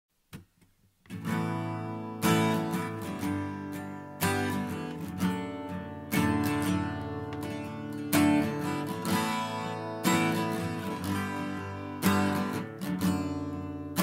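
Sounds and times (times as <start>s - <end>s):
acoustic guitar strumming: 1.1s - 14.0s.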